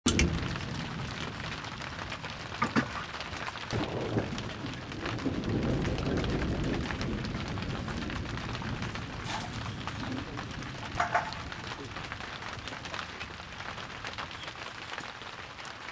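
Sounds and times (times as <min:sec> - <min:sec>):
fire pops: 0:00.0 - 0:15.2
wood fire crackling: 0:00.0 - 0:15.9.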